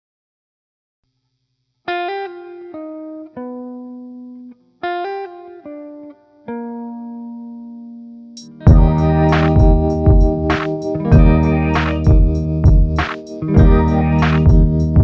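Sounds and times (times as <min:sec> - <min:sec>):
guitar plucked notes: 0:01.9 - 0:15.0.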